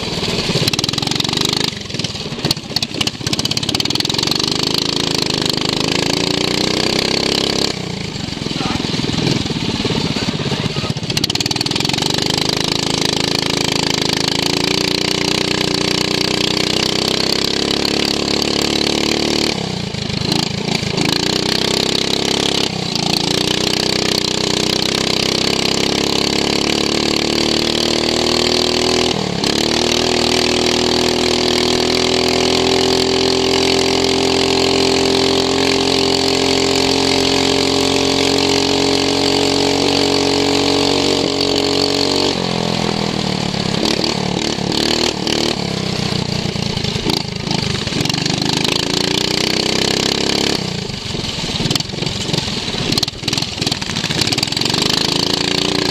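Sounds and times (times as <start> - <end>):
racing lawn mower engine: 0.0 - 55.9.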